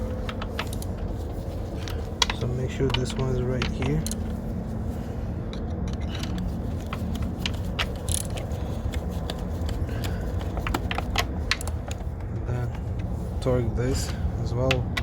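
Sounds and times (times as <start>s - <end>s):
clicks of parts and tools handled: 0.0s - 4.4s, 5.5s - 13.1s, 13.9s - 15.0s.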